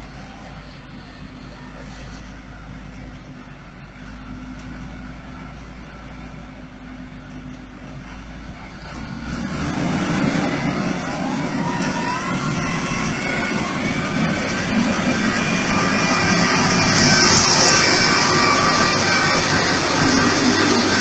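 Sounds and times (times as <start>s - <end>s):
heavy equipment engine running: 0.0s - 21.0s.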